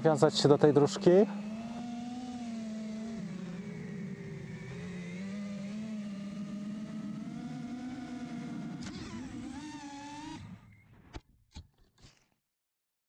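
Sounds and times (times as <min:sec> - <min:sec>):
drone motors humming: 0:00.0 - 0:11.2.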